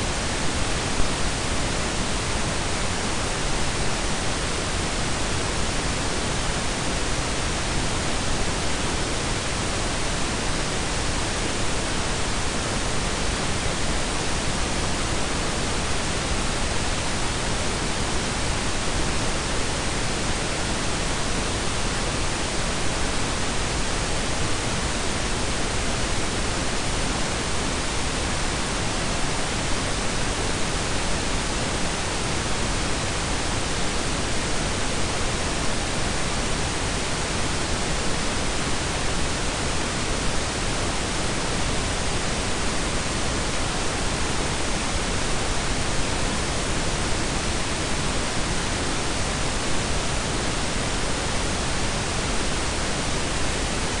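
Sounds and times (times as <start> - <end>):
steady rumbling noise hiss: 0.0 - 54.0.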